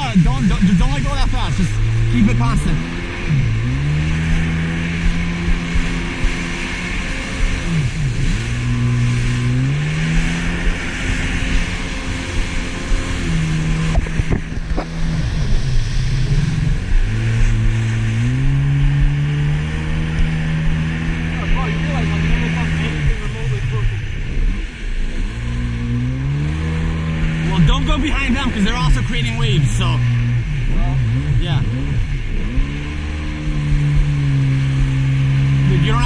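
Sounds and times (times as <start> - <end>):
jet ski engine revving: 0.0 - 36.0.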